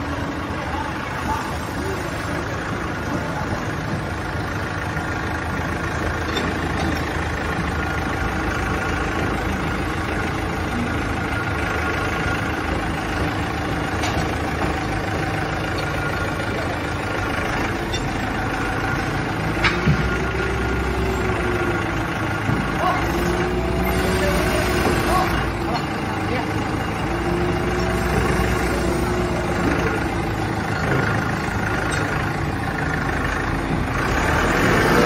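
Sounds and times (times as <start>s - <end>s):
forklift engine running: 0.0s - 35.0s.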